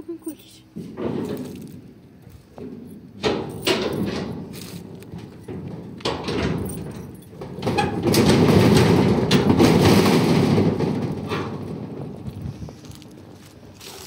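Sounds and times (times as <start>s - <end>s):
metal gate and chain rattling: 0.3s - 14.0s.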